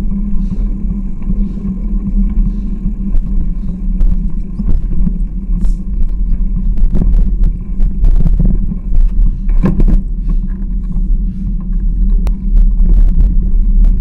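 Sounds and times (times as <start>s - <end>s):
bicycle clicks and rattles: 0.0s - 14.0s
wind rumbling on microphone: 0.0s - 14.0s.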